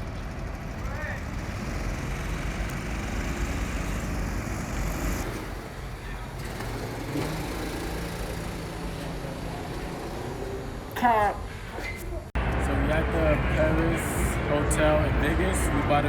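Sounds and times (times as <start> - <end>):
road noise: 0.0 - 16.0
vehicle engine rumble: 0.0 - 16.0.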